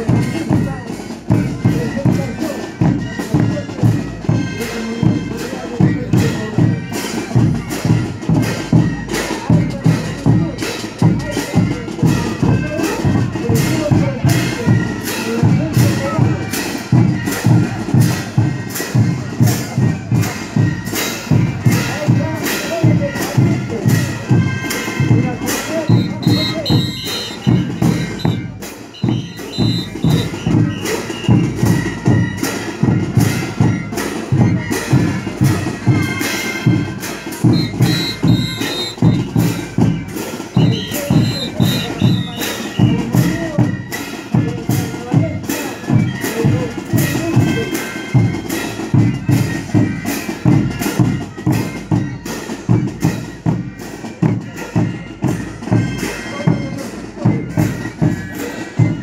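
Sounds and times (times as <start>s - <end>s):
brass band playing dance tune: 0.0s - 59.0s.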